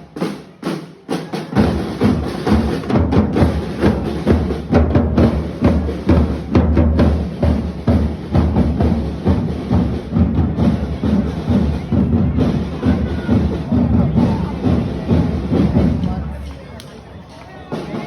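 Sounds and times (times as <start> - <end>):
drum band playing: 0.0 - 16.4, 17.7 - 18.0.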